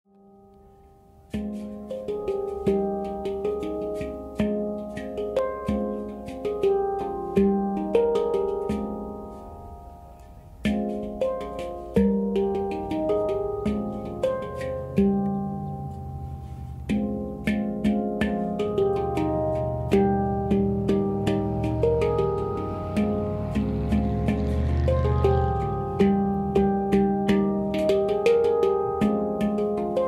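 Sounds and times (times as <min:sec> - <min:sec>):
handpan notes ringing: 0:00.1 - 0:30.0.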